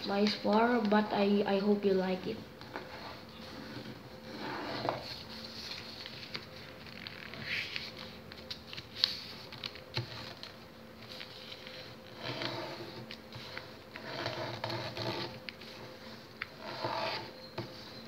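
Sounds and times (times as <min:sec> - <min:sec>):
paper rustling and folding: 0:02.6 - 0:18.0.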